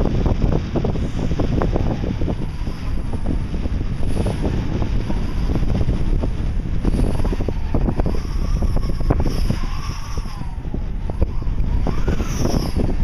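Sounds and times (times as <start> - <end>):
kite whining through air: 0.0 - 13.0
wind buffeting microphone: 0.0 - 13.0.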